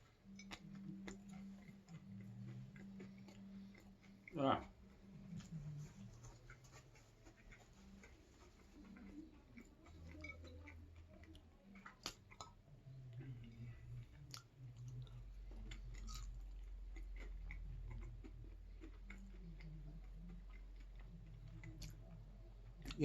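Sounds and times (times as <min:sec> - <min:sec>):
person chewing food: 0:00.0 - 0:23.0
steady low hum: 0:00.0 - 0:23.0.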